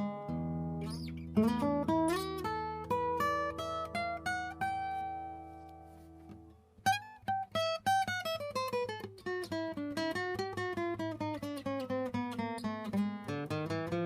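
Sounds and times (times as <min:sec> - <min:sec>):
acoustic guitar picked notes: 0:00.0 - 0:14.0.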